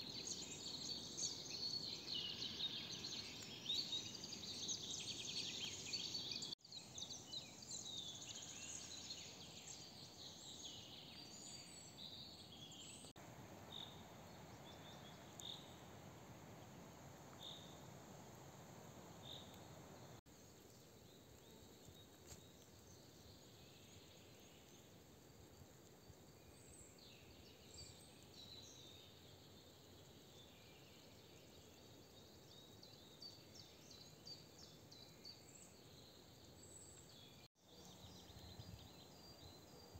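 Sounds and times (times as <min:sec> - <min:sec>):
faint forest ambience: 0:00.0 - 0:39.9
songbirds chirping: 0:00.0 - 0:39.9.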